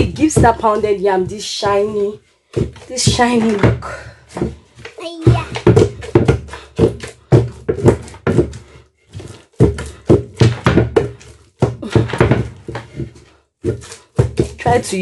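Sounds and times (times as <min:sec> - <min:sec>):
pestle thudding in wooden mortar: 0:00.0 - 0:15.0.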